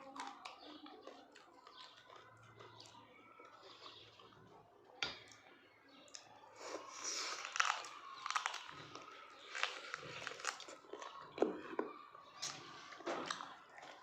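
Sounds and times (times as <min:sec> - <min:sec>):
person chewing meat: 0:00.0 - 0:05.5, 0:06.1 - 0:14.0.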